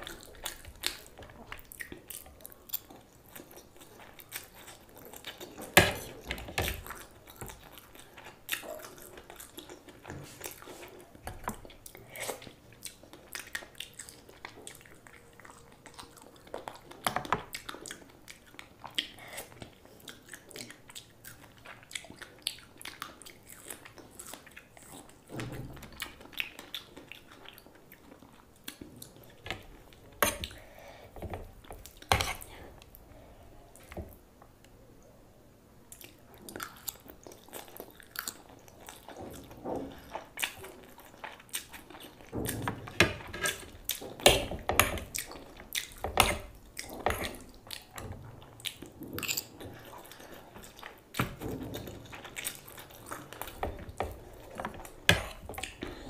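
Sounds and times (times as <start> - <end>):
person chewing noodles: 0.0 - 25.3, 25.9 - 34.0, 35.9 - 56.0.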